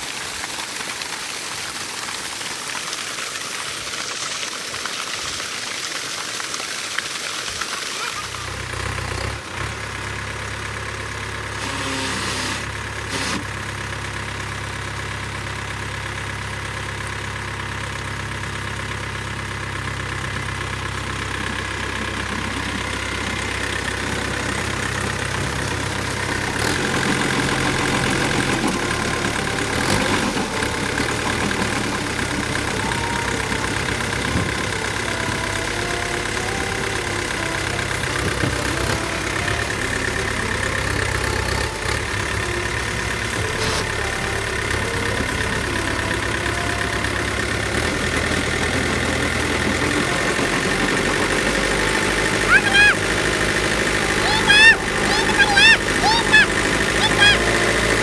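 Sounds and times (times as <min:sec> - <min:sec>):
tractor diesel engine running: 0:00.1 - 0:58.0.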